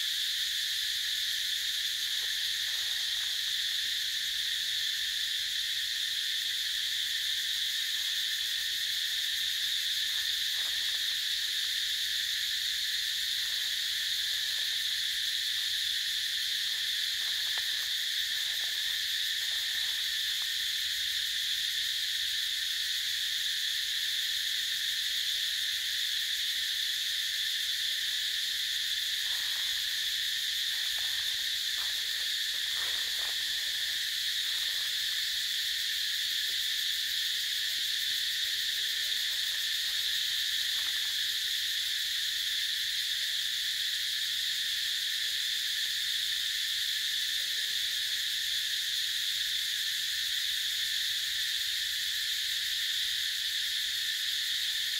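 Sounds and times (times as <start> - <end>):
insect chorus buzzing: 0.0 - 54.9.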